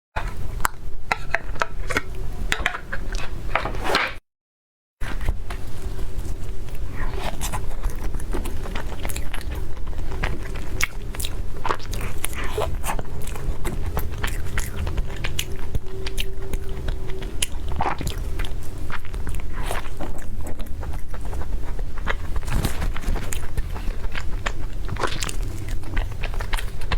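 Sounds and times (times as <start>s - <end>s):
crunchy chewing: 5.0s - 26.9s
low hum: 5.0s - 26.9s.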